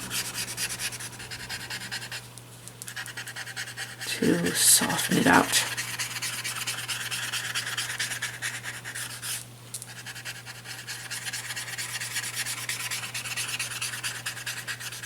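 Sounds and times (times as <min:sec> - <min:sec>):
tortillon scratching on paper: 0:00.0 - 0:02.2, 0:02.9 - 0:15.0.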